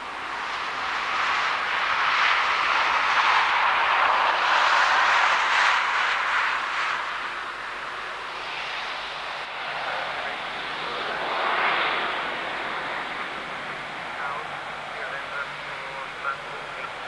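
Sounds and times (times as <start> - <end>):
jet engines hissing whoosh: 0.2 - 17.0.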